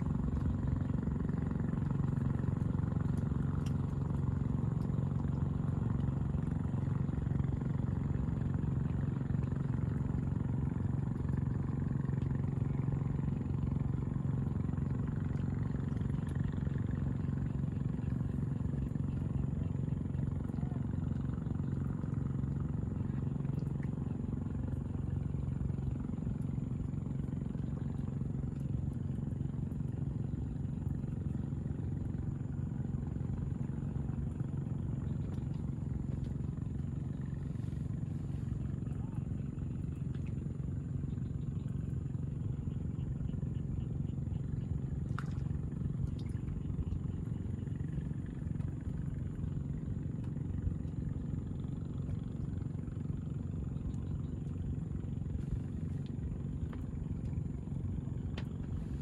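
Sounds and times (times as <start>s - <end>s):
low engine drone: 0.0s - 59.0s.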